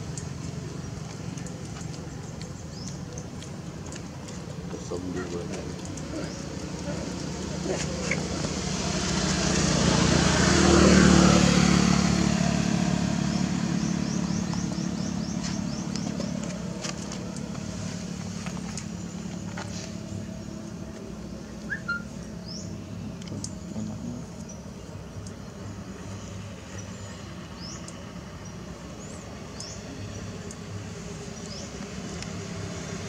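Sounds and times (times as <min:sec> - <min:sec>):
motor vehicle passing: 0:00.0 - 0:33.0.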